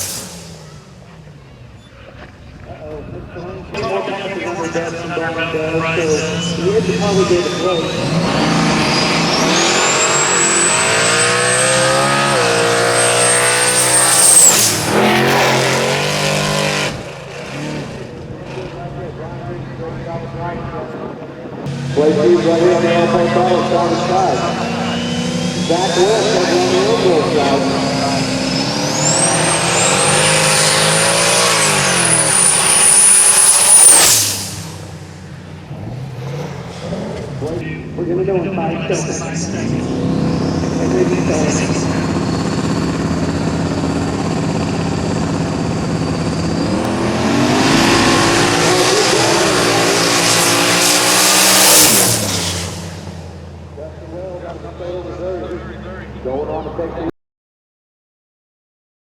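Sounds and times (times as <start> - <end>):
race car engine at full throttle: 0.0 - 57.1.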